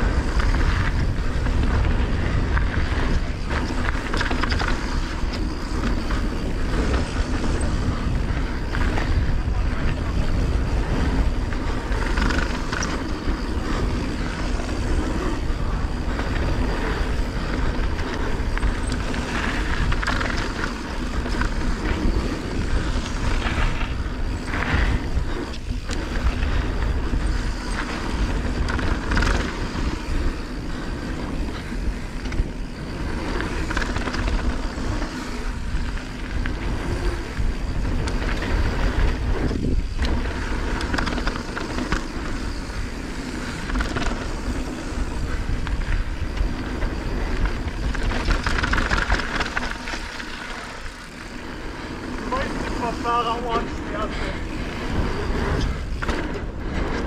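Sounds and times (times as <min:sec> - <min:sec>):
bike tyres rolling over gravel: 0:00.0 - 0:57.0
wind rumble on microphone: 0:00.0 - 0:57.0.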